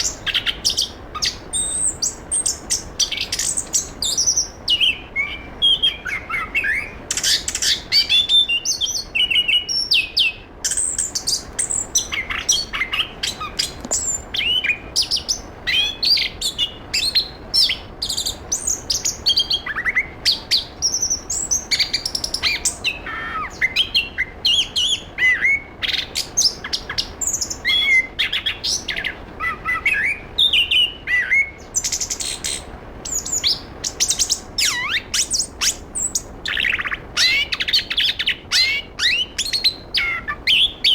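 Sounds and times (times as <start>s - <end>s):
thrush singing whistled notes: 0.0s - 40.9s.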